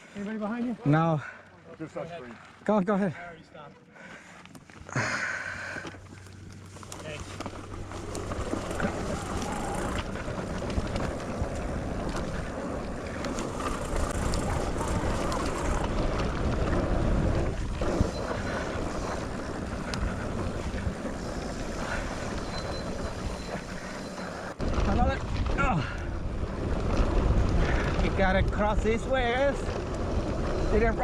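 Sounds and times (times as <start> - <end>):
bike tyres on dirt trail: 0.0 - 31.0
wind rumbling on microphone: 6.1 - 31.0.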